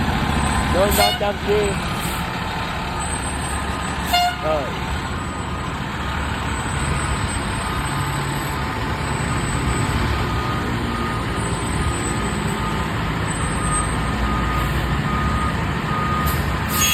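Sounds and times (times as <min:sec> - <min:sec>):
diesel engine rumble: 0:00.0 - 0:16.9
reversing alarm beeping: 0:02.9 - 0:16.9.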